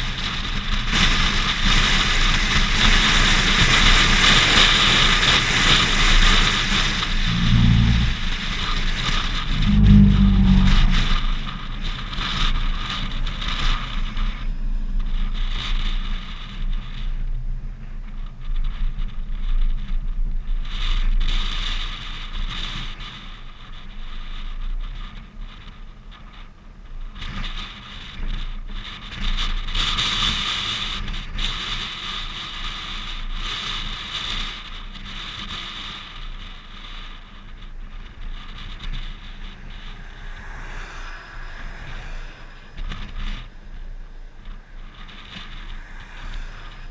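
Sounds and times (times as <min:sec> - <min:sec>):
steady low rumble: 0:00.0 - 0:27.2, 0:36.2 - 0:46.9
wind buffeting microphone: 0:00.0 - 0:46.9.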